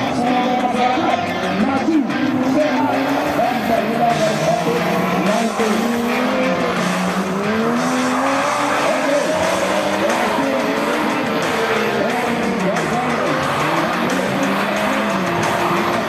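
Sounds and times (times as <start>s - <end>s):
off-road engines revving: 0.0s - 16.0s.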